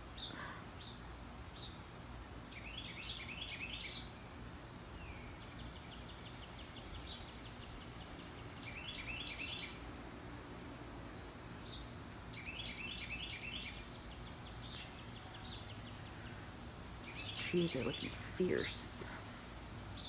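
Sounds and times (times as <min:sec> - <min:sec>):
birds chirping: 0:00.0 - 0:04.3, 0:05.0 - 0:10.4, 0:11.0 - 0:20.0.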